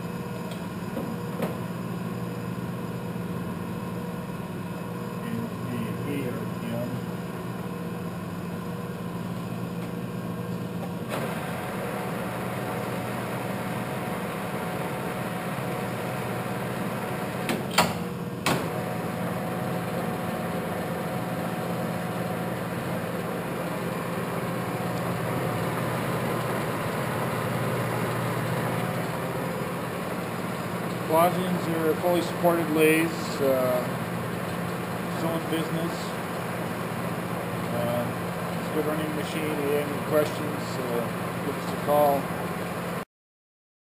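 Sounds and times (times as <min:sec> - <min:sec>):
lathe gear and motor hum: 0:00.0 - 0:43.0.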